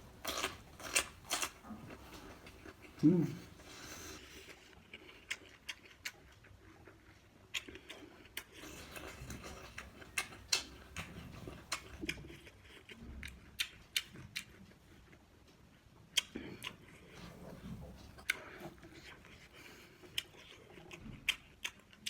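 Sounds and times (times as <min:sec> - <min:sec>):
close chewing and crunching: 0:00.0 - 0:22.0.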